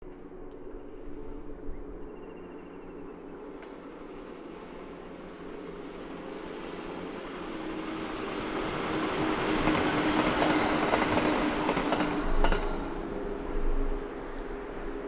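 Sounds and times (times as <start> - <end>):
train passing: 0.1 - 15.0.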